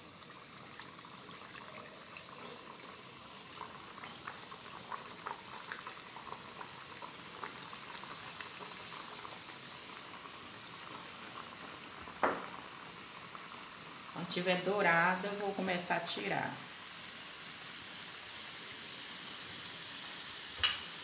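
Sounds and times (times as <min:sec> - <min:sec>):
dough deep-frying in hot oil: 0:00.0 - 0:21.0.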